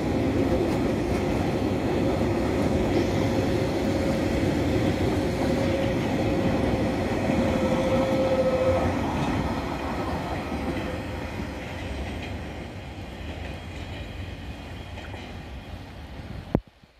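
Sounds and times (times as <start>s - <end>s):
train wheels clacking on track: 0.0s - 16.6s.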